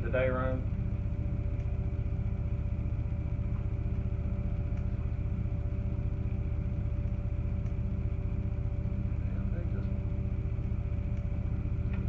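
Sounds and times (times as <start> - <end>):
constant tones: 0.0 - 12.0
low machine hum: 0.0 - 12.0.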